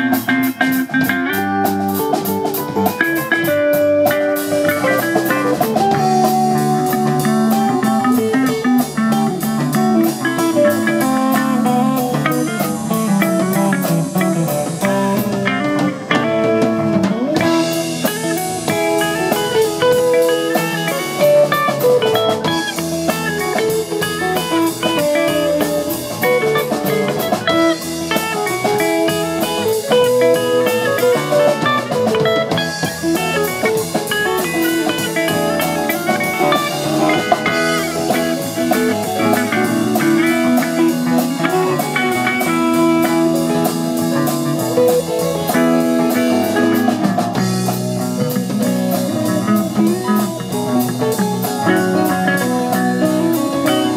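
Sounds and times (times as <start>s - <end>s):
drum kit: 0.0s - 53.9s
electric bass: 0.0s - 53.9s
electric guitars: 0.0s - 53.9s.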